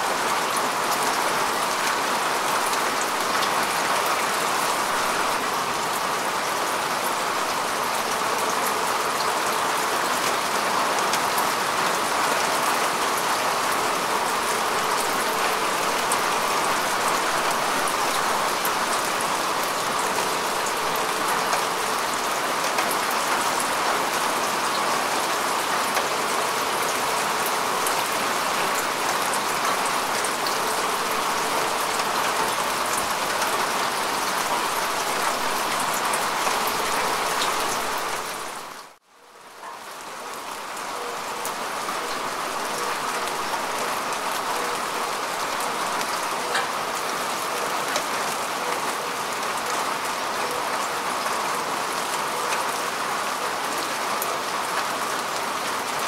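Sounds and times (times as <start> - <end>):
rain falling on grass: 0.0 - 56.0.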